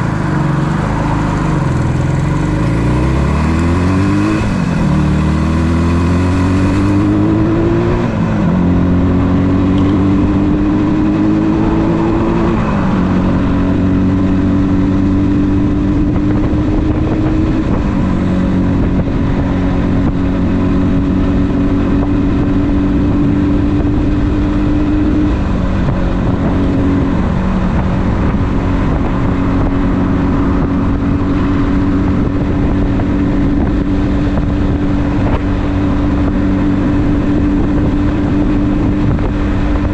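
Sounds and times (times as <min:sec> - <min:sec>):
motorcycle engine pulling away: 0:00.0 - 0:39.9.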